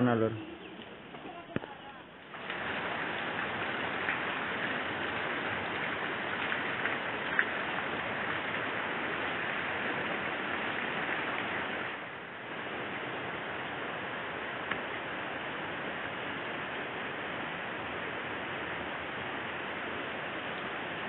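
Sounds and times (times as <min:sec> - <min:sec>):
heavy rain on tile roof: 0:00.0 - 0:21.0.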